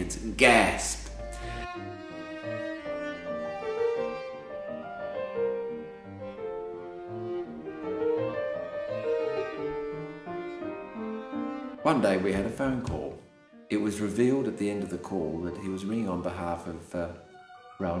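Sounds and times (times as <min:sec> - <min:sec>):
bowed strings: 0:00.0 - 0:18.0
grand piano chords: 0:00.0 - 0:18.0.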